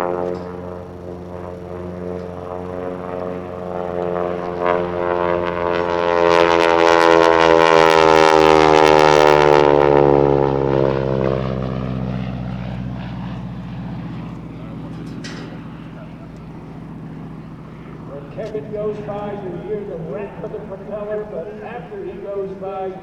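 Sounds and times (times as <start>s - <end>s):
propeller plane flying by: 0.0s - 23.0s.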